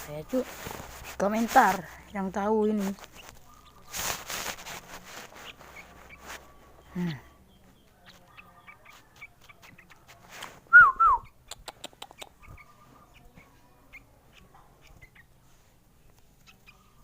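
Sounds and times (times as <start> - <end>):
bird chick calling: 0.1 - 10.2, 10.8 - 15.4, 16.4 - 17.0.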